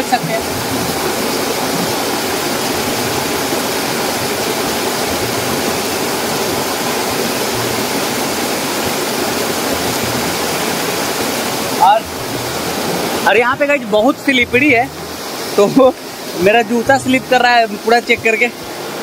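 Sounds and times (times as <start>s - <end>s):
waterfall pouring over rocks: 0.0s - 19.0s.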